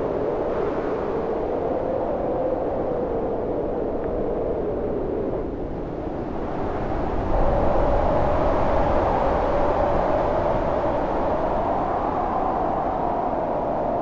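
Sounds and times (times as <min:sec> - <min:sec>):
howling storm wind: 0:00.0 - 0:14.0.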